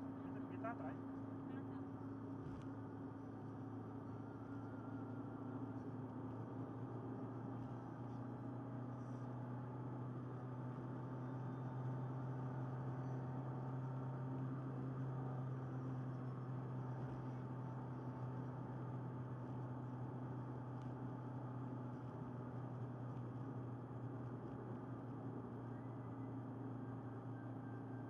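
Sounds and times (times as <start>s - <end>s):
car engine drone and tyre noise: 0.0s - 28.0s.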